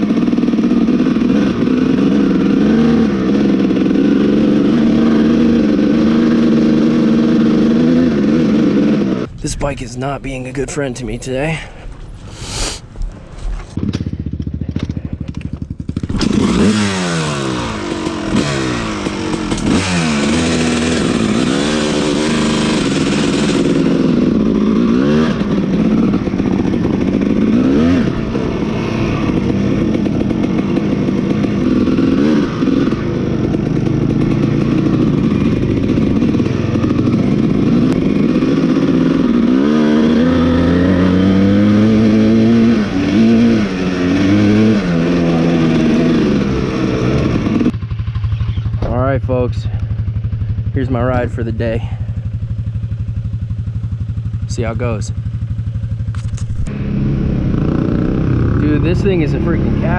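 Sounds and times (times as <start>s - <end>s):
dirt bike engine revving: 0.0s - 10.0s, 10.6s - 59.9s.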